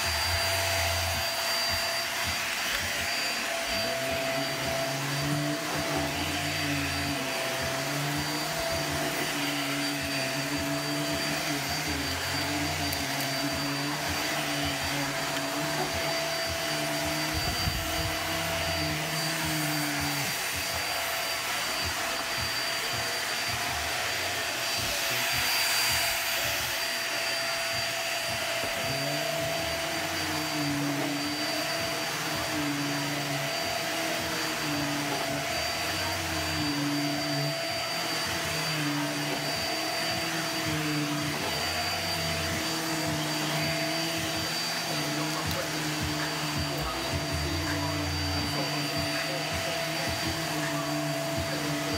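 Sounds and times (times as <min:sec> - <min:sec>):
vacuum cleaner on carpet: 0:00.0 - 0:51.9.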